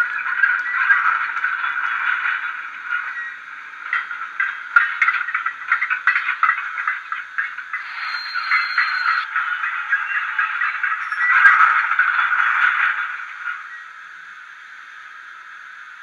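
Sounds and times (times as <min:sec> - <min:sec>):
steam locomotive running sound: 0:00.0 - 0:16.0.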